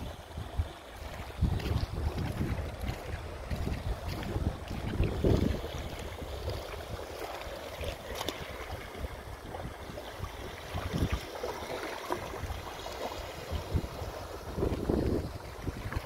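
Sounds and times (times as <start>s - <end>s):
wind gusting on microphone: 0.0s - 7.1s, 7.9s - 11.3s, 12.2s - 16.0s
small waves washing onto shore: 0.0s - 16.0s.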